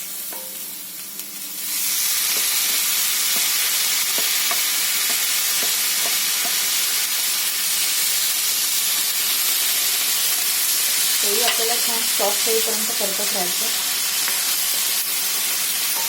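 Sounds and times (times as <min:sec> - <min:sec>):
tomatoes sizzling in hot oil: 0:00.0 - 0:16.0.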